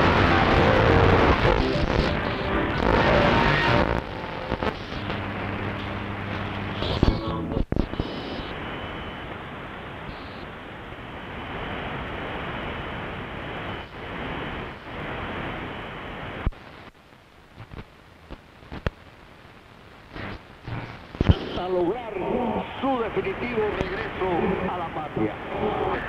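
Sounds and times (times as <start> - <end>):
radio whistles and crackles: 0.0 - 10.6, 13.4 - 26.0
radio static hiss: 0.0 - 26.0.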